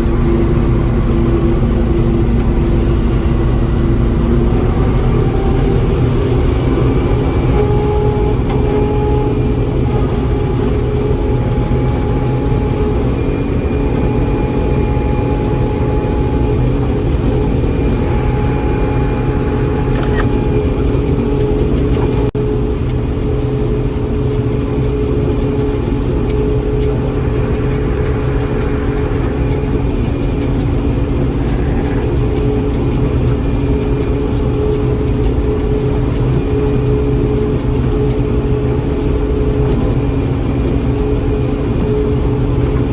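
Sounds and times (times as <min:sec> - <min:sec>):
combine harvester engine drone: 0:00.0 - 0:42.9
steady whining tones: 0:00.0 - 0:42.9.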